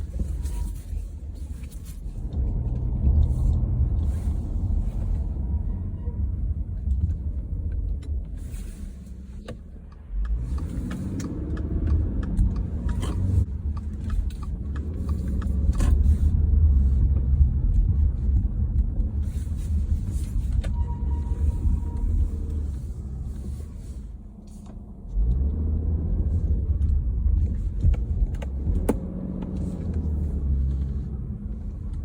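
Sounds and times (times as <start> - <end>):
car road rumble: 0.0 - 32.0.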